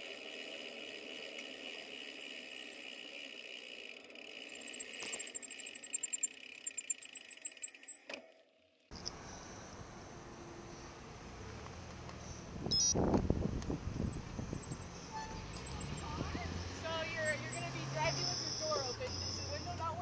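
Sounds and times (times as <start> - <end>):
bicycle freehub ticking: 0.0 - 8.9, 12.7 - 20.0.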